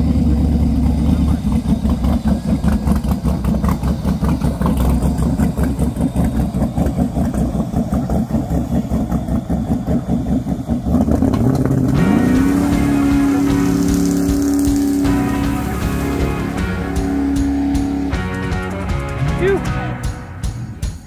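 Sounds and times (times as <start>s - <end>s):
boat engine revving: 0.0s - 20.8s.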